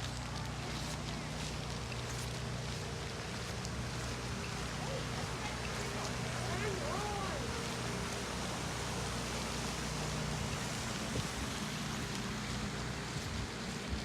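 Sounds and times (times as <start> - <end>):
high-pressure water spraying on concrete: 0.0 - 14.0.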